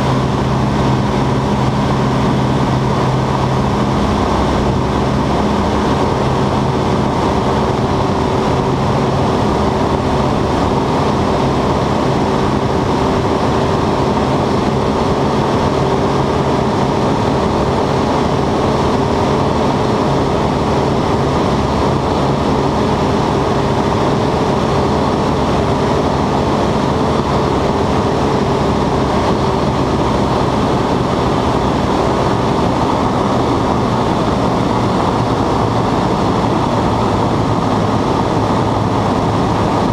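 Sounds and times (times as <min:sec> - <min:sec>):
aircraft propeller engine at high power: 0:00.0 - 0:39.9.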